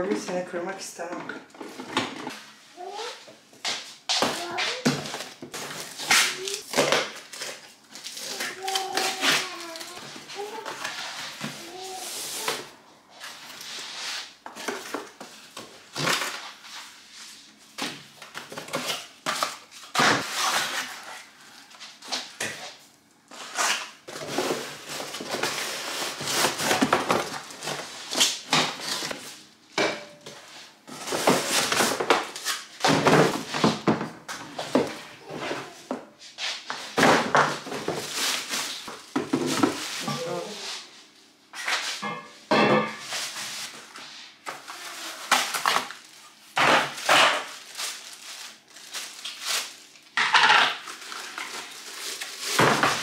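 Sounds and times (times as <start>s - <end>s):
plastic wrapping rustling: 1.6s - 29.5s, 30.4s - 33.9s, 36.5s - 42.0s, 43.0s - 53.0s.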